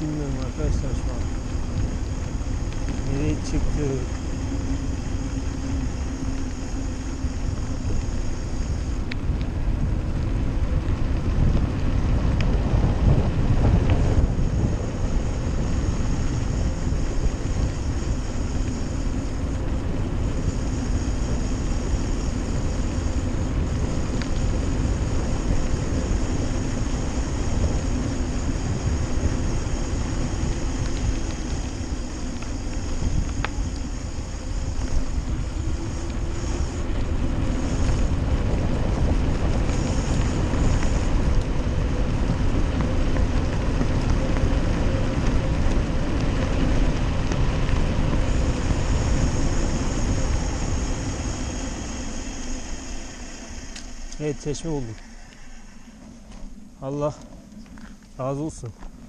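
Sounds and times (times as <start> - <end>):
bicycle tyre rumble on rough road: 0.0 - 59.0
wind noise on microphone: 0.0 - 59.0.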